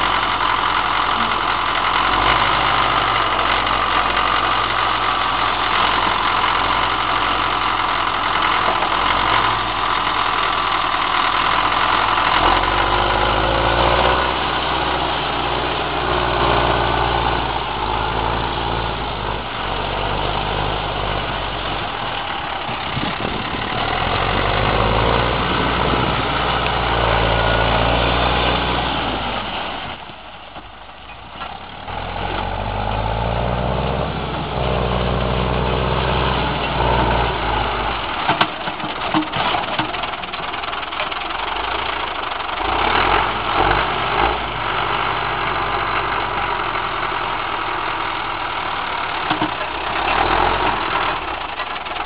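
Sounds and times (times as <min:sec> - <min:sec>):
diesel engine driving off: 0:00.0 - 0:52.0.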